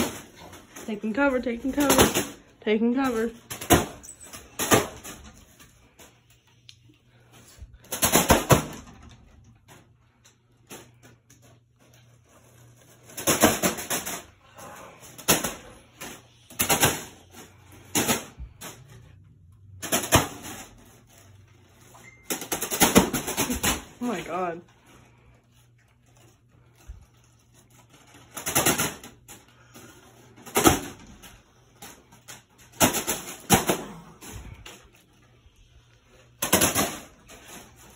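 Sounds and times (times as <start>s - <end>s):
fan blades slapping foil balloon: 0.0s - 37.9s
low steady fan hum: 0.0s - 37.9s.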